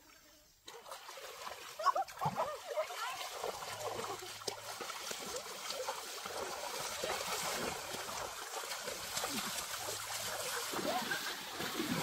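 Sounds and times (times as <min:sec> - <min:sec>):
water splashing: 0:00.6 - 0:12.0.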